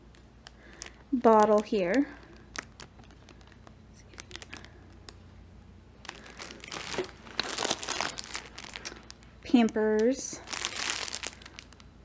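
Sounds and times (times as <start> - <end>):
plastic packaging crinkling: 0.0 - 5.3, 6.0 - 12.0.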